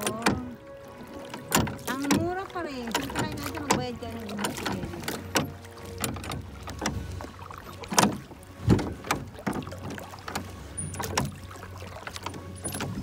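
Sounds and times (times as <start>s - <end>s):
paddle knocks: 0.0s - 13.0s
paddle splashing in water: 0.0s - 13.0s.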